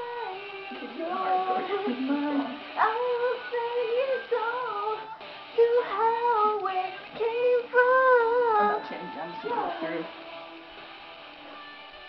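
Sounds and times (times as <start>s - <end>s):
recorded song with singing: 0.0s - 12.0s.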